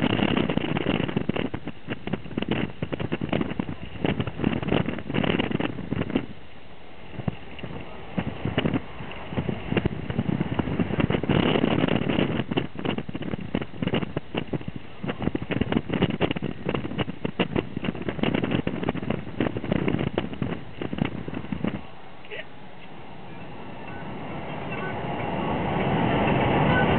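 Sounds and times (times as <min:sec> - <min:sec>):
road noise: 0:00.0 - 0:26.9
wind buffeting microphone: 0:00.0 - 0:26.9.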